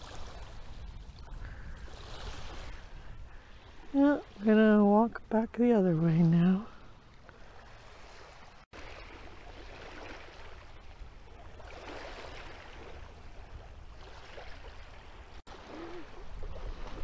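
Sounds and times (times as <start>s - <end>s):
wind rumble on microphone: 0.0s - 8.6s, 10.6s - 17.0s
small waves lapping at shore: 0.0s - 17.0s.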